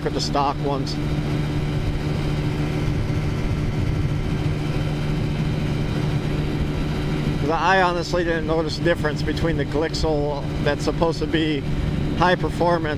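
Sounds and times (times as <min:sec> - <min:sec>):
scooter engine humming: 0:00.0 - 0:12.9
wind and road noise: 0:00.0 - 0:12.9.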